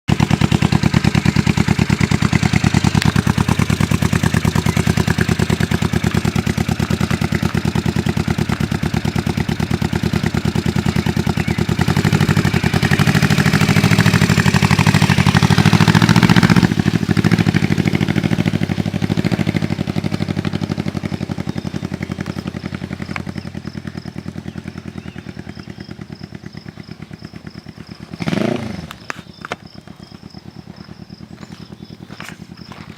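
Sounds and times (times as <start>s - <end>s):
motorcycle engine idling: 0.1s - 32.9s
motorcycle pulling away: 0.1s - 32.9s.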